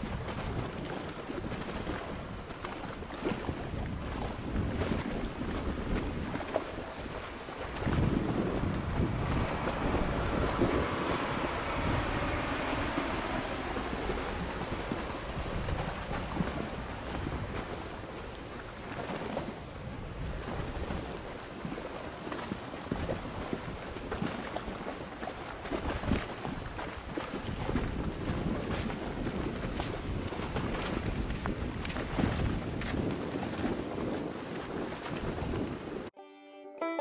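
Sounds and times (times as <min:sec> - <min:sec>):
choppy water: 0:00.0 - 0:36.1
wind buffeting microphone: 0:00.0 - 0:36.1.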